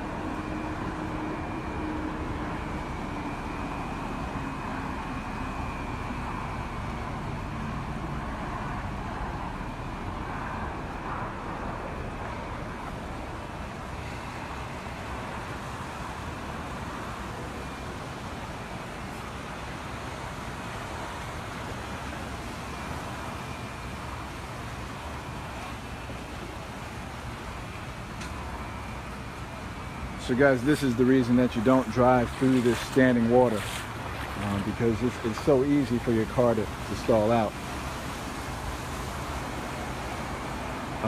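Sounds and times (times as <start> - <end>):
traffic noise: 0.0 - 41.0.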